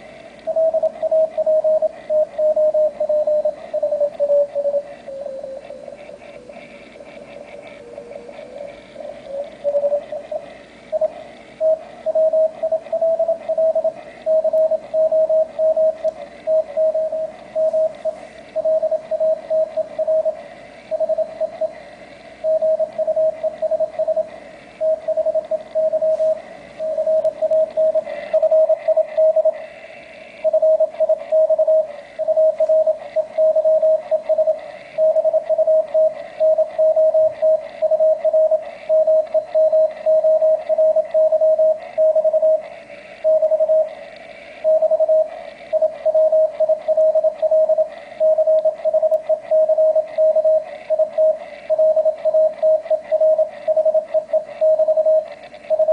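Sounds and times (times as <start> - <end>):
faint radio hiss: 0.0 - 55.9
morse code tone: 0.5 - 5.8, 7.6 - 21.8, 22.4 - 29.6, 30.3 - 44.0, 44.6 - 55.9.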